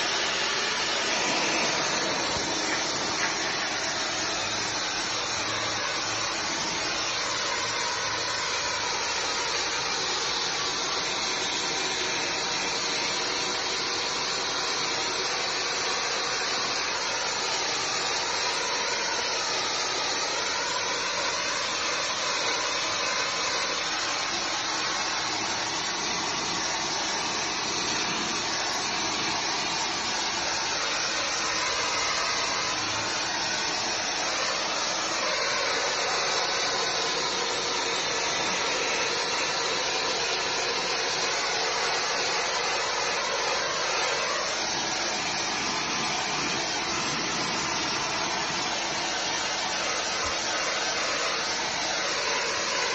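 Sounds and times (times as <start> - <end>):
pressure jet spraying brickwork: 0.0 - 52.9.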